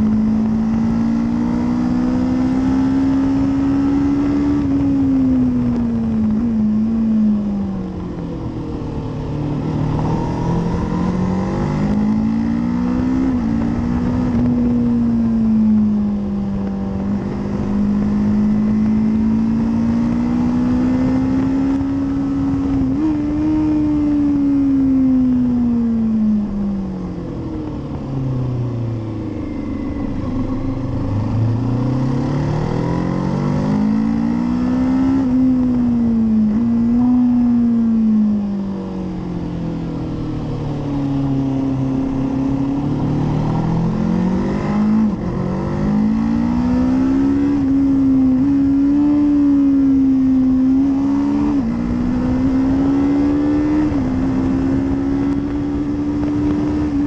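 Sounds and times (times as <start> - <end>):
motorcycle engine accelerating: 0.0 - 57.0
wind rush on microphone: 2.9 - 29.2, 29.8 - 57.0.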